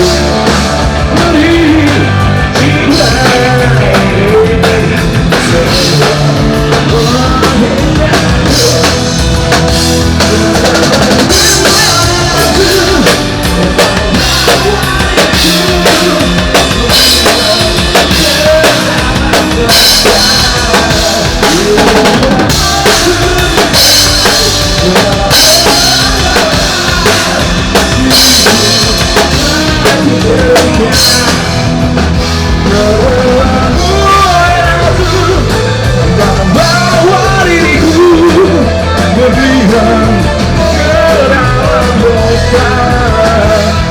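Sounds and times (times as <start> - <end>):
drum kit: 0.0 - 43.9
rock band playing live: 0.0 - 43.9.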